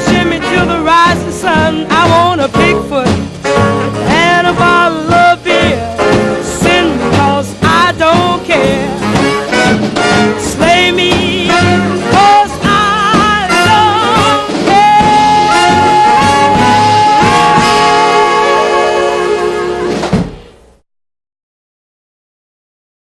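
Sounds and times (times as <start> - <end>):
swing jazz band with brass: 0.0 - 20.7.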